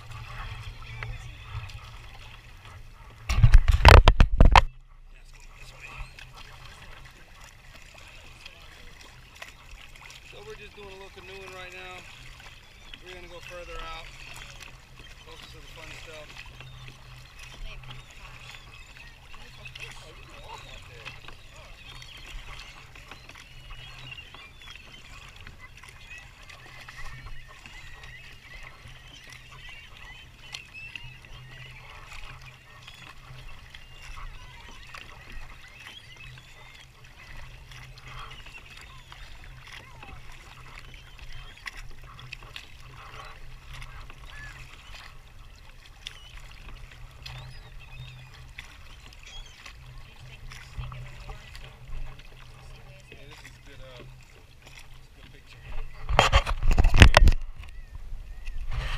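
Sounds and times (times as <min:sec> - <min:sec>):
paddle splashing in water: 0:00.0 - 0:58.9.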